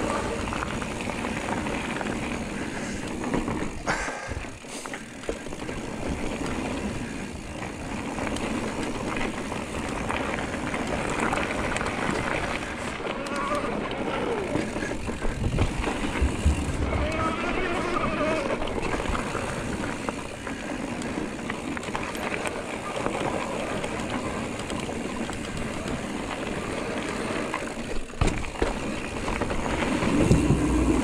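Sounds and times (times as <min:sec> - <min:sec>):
bike knocking and rattling: 0:00.0 - 0:31.0
bike tyre rushing on trail: 0:00.0 - 0:31.0.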